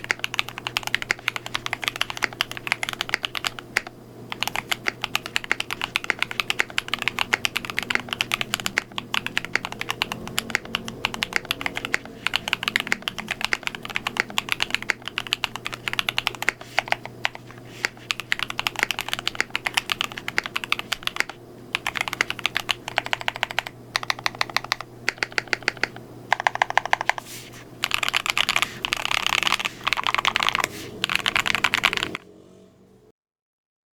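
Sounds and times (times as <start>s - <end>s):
mechanical keyboard typing: 0.0s - 32.2s.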